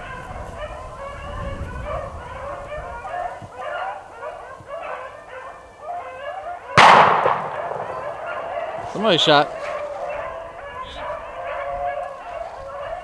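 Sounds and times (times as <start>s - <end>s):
hounds baying: 0.0s - 13.0s.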